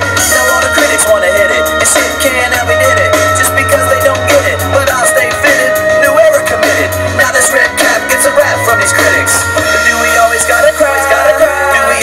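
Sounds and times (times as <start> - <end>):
heavy bass line: 0.0 - 12.0
loud music with singing: 0.0 - 12.0.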